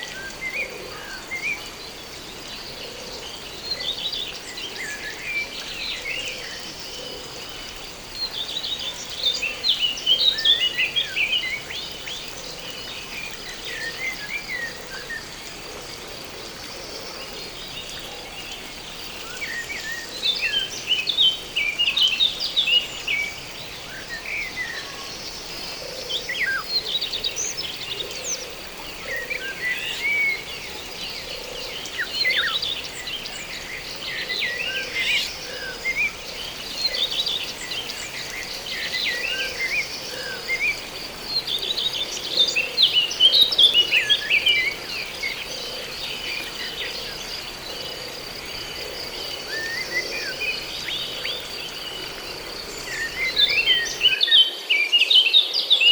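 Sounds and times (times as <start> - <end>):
faint low frog calls: 0.0 - 54.2
insects trilling: 0.0 - 54.9
birds chirping and twittering: 0.0 - 55.0.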